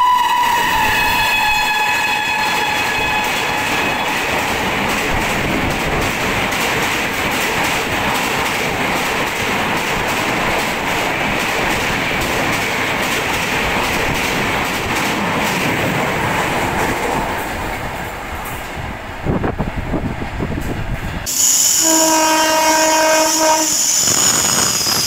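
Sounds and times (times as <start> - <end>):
train coaches rushing past: 0.0 - 25.0.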